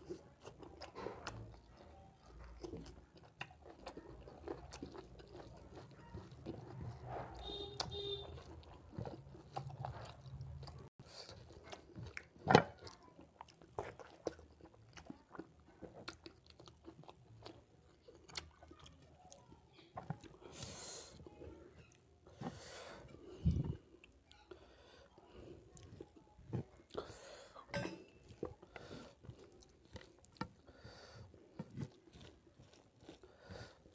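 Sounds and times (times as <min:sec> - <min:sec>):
wet chewing: 0:00.0 - 0:33.9.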